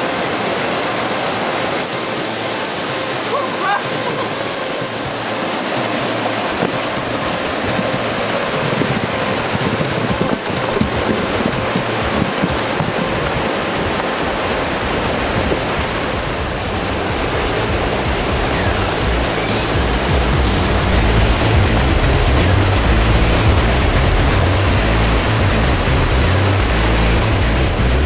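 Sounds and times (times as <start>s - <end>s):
deep water rumble: 0.0s - 28.0s
stream rushing over rocks: 0.0s - 28.0s.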